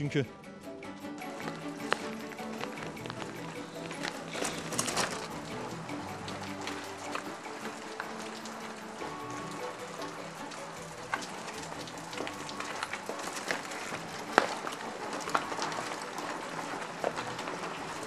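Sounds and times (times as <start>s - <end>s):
soft background music: 0.0s - 18.0s
light rain hiss: 1.1s - 18.0s.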